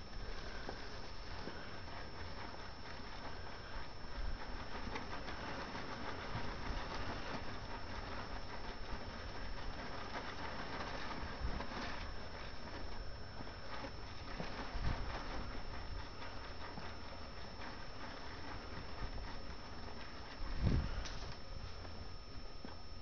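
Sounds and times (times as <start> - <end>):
tarp flapping in wind: 0.0 - 22.3.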